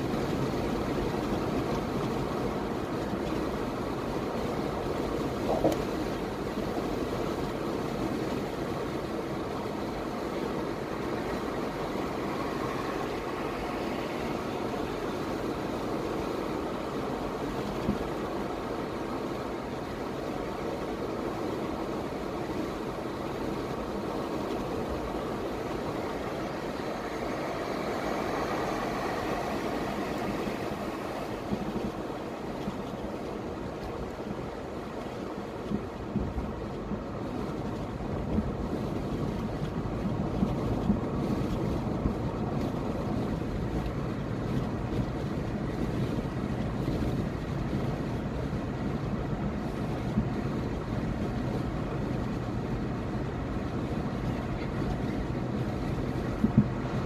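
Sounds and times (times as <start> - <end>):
road and engine noise in car: 0.0 - 57.0.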